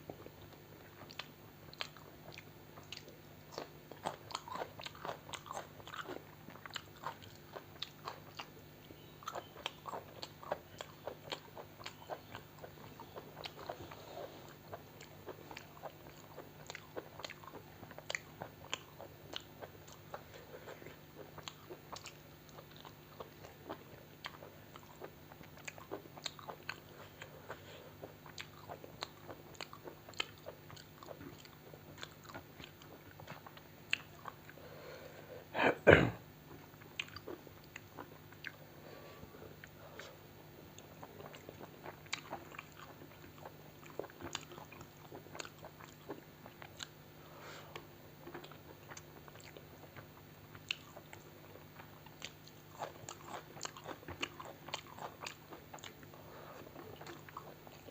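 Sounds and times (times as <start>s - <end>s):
person chewing food: 0.0s - 35.5s, 36.5s - 57.9s.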